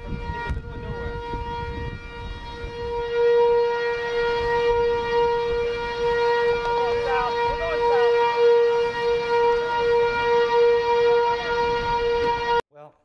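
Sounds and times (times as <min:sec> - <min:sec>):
warning siren steady tone: 0:00.0 - 0:12.6
wind rumbling on microphone: 0:00.0 - 0:12.6.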